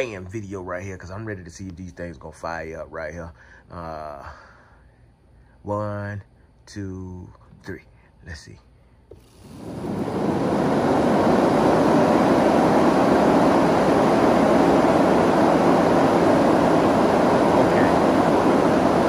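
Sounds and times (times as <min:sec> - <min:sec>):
electric cooling fans running: 0:00.0 - 0:19.0.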